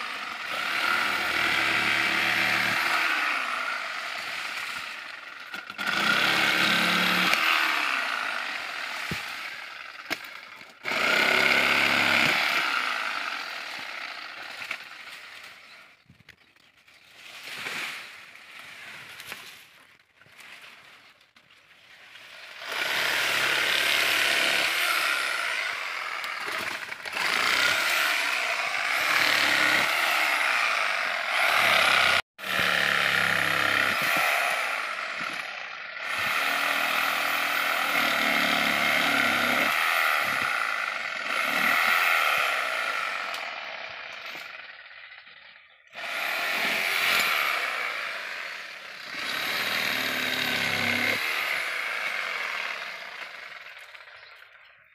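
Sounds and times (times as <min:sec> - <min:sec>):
electric saw cutting wood: 0:00.0 - 0:16.0, 0:22.2 - 0:54.7.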